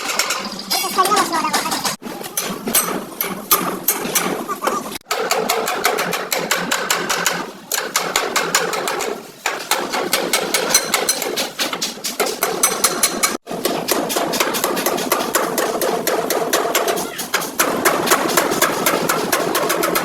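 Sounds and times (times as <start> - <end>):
hammer blows on sheet metal: 0.8 - 20.0.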